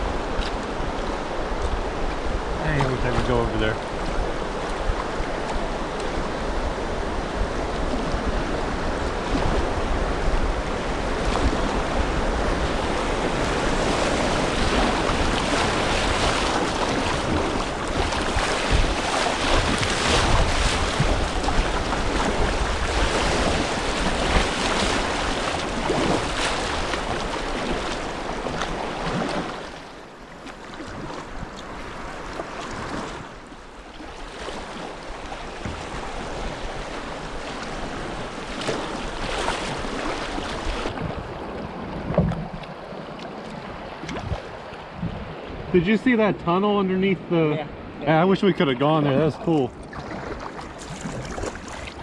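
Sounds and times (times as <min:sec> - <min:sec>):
wind buffeting microphone: 0:00.0 - 0:45.8
river water rushing: 0:00.0 - 0:46.6.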